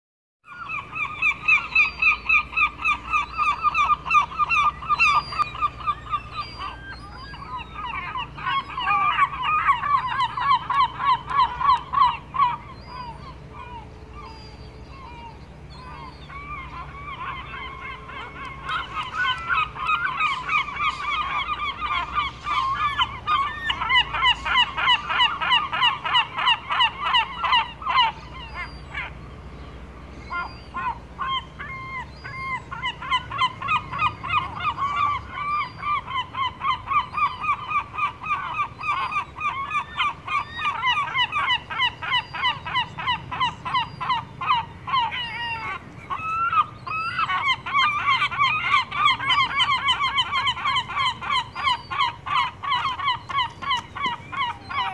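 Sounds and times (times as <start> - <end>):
gulls calling: 0.4 - 54.9.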